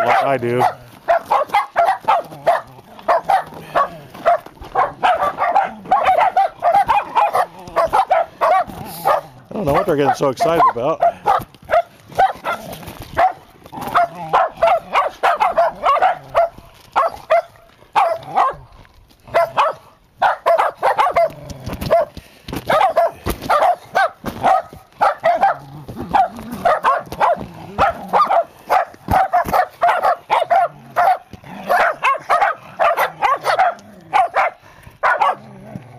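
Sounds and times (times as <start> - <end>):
dog barking excitedly: 0.0 - 35.6.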